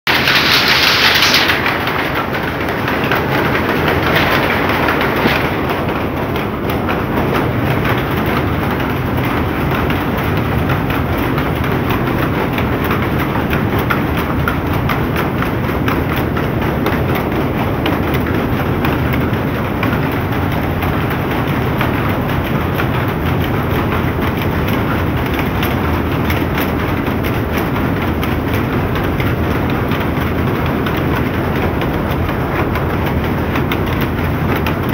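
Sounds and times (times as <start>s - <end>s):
looms clattering: 0.1s - 34.9s.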